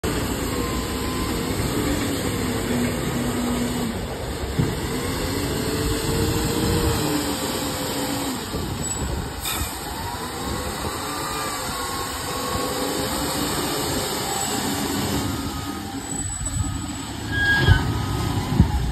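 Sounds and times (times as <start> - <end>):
diesel engine working under load: 0.0 - 18.9.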